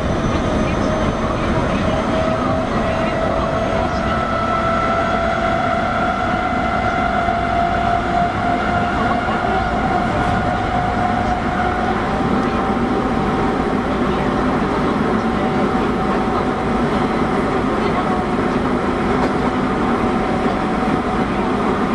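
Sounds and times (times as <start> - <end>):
train motor whine: 0.0 - 21.9
wheels rumbling on rails: 0.0 - 21.9.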